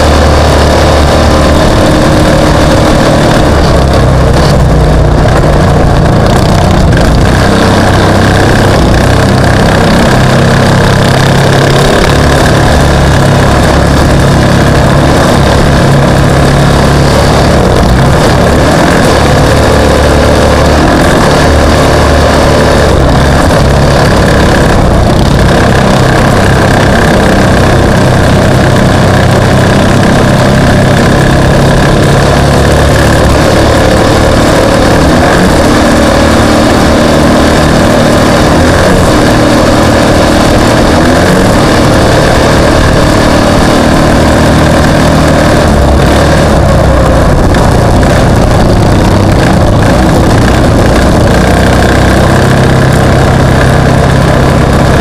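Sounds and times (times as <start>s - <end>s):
racing vehicle engine revving: 0.0s - 55.0s.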